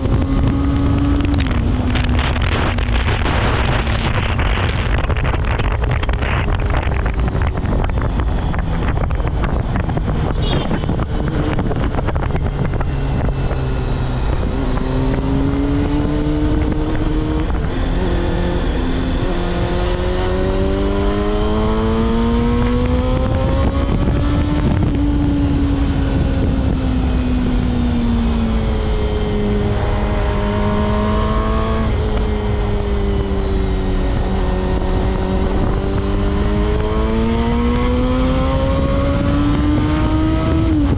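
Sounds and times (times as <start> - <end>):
motorcycle engine running at speed: 0.0 - 40.9
wind on microphone: 0.0 - 40.9.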